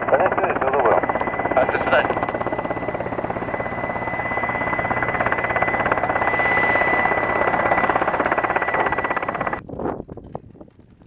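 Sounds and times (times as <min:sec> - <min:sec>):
helicopter rotor beating: 0:00.0 - 0:09.6
high engine whine: 0:00.0 - 0:09.6.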